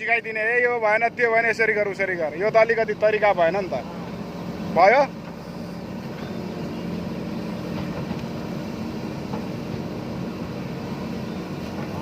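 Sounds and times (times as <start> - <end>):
diesel engine low hum: 0.0 - 12.0.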